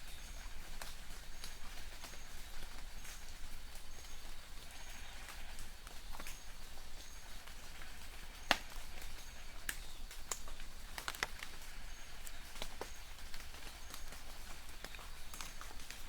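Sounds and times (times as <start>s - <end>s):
distant birds chirping: 0.0s - 16.0s
light rain hissing: 0.0s - 16.0s.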